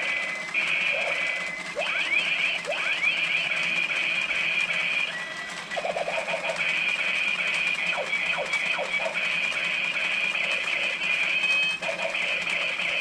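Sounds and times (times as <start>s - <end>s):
toy chainsaw high-pitched buzz: 0.0s - 13.0s.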